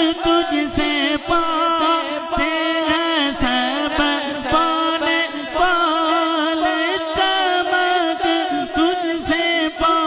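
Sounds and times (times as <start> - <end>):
man singing through microphone: 0.0 - 10.0.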